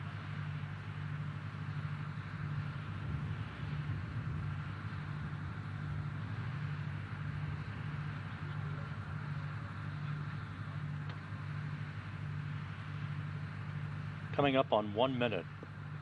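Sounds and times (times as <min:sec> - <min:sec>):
low pulsing hum: 0:00.0 - 0:16.0.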